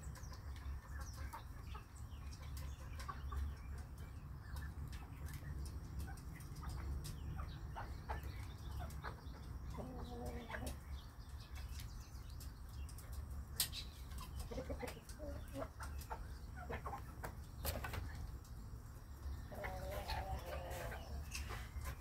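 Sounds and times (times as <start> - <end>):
hens clucking softly: 0.1 - 22.0.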